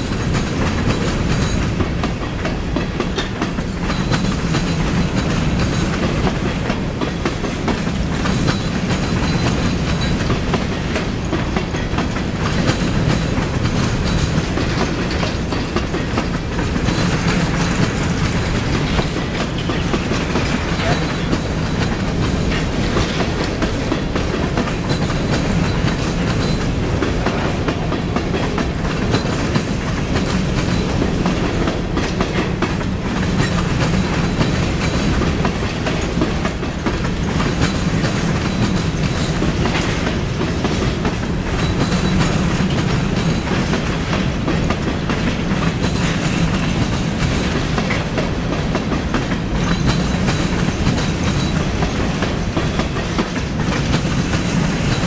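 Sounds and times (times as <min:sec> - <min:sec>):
clickety-clack over rail joints: 0:00.0 - 0:55.0
steel wheels rumbling: 0:00.0 - 0:55.0.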